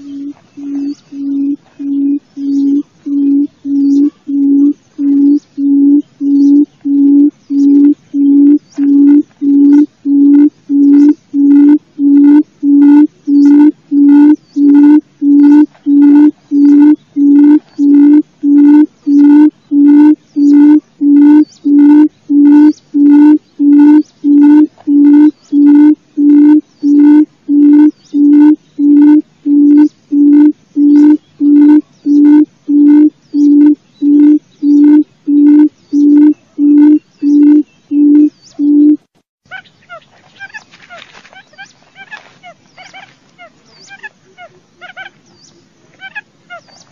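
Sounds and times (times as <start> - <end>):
quail lure call hooting: 0.0 - 40.6.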